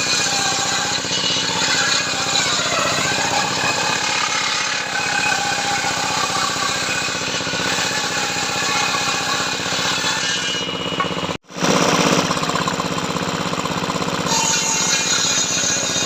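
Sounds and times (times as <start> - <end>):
power tool running with pulsing: 0.0 - 16.0.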